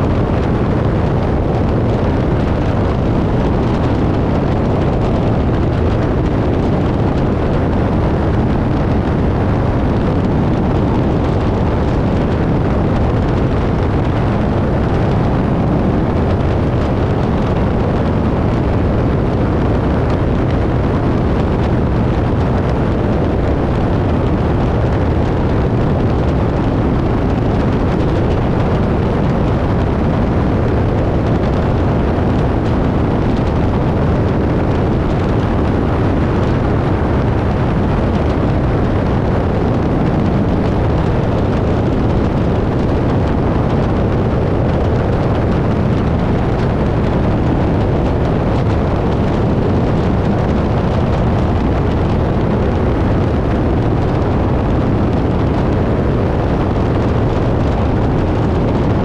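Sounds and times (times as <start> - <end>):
airplane engine and propeller: 0.0 - 59.0
wind rush buffeting microphone: 0.0 - 59.0.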